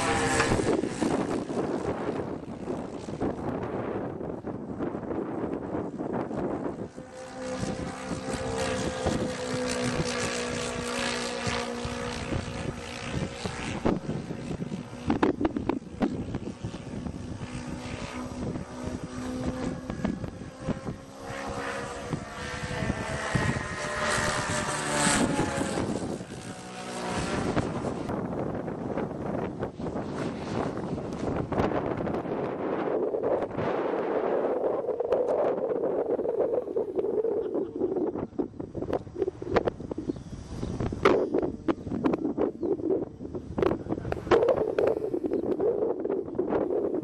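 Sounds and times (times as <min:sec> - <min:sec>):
model aeroplane propeller drone: 0:00.0 - 0:47.0.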